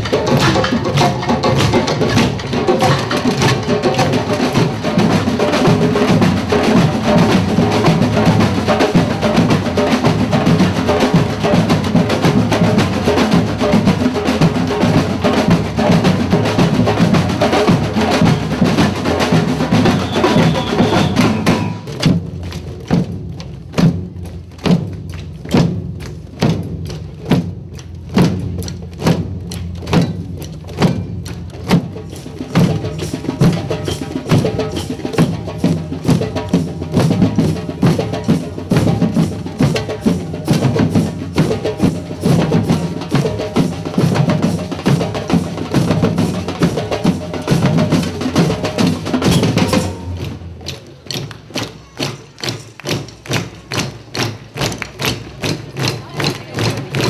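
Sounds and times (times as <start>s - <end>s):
group drumming: 0.0s - 57.0s.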